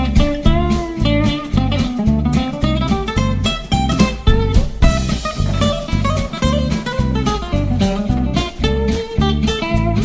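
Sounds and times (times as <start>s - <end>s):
bass line: 0.0s - 10.0s
guitar melody: 0.0s - 10.0s.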